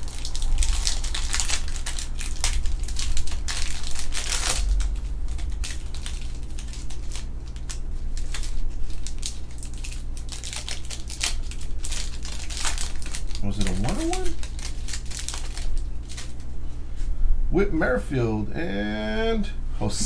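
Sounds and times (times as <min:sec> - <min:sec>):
foil wrappers crinkling and tearing: 0:00.0 - 0:16.5
steady low hum: 0:00.0 - 0:20.0.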